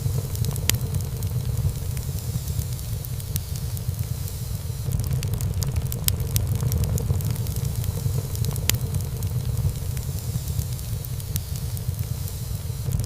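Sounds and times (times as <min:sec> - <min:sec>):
fire rumbling: 0:00.0 - 0:13.0
wood crackling and popping: 0:00.0 - 0:13.0.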